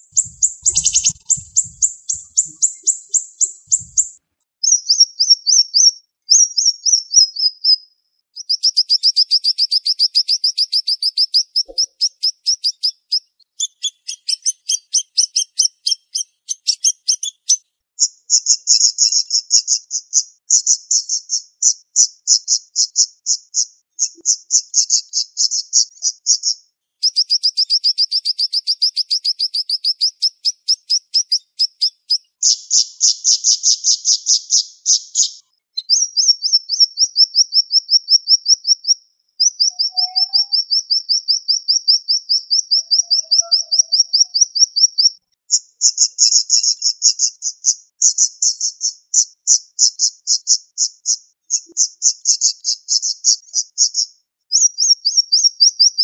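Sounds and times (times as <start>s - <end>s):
songbird chirping: 0.0s - 21.5s, 22.3s - 47.8s.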